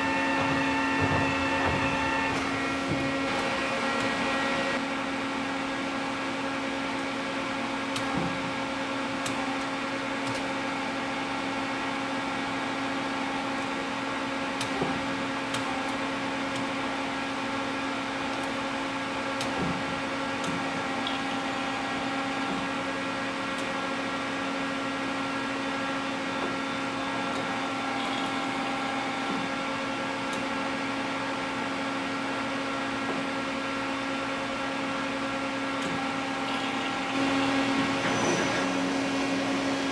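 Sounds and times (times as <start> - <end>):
lathe machine hum: 0.0 - 39.9.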